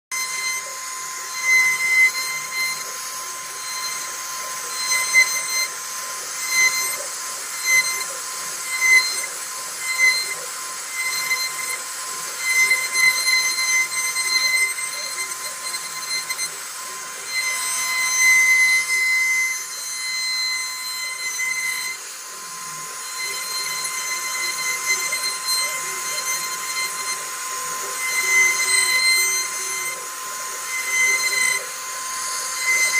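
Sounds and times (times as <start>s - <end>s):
router spindle whining cutting wood: 0.1s - 32.9s.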